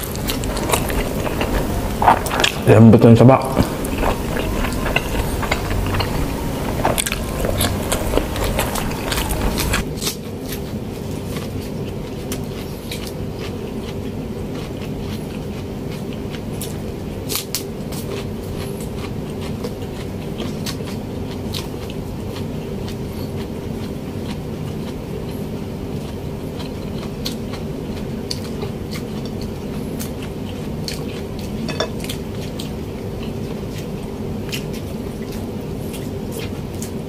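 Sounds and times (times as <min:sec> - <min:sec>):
man chewing food: 0:00.0 - 0:37.0
steady low hum: 0:00.0 - 0:37.0.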